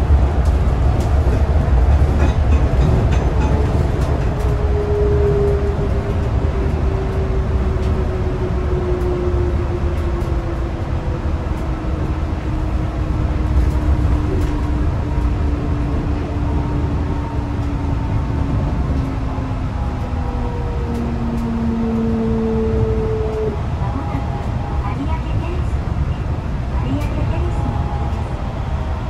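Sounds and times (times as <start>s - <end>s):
train running rumble: 0.0s - 29.0s.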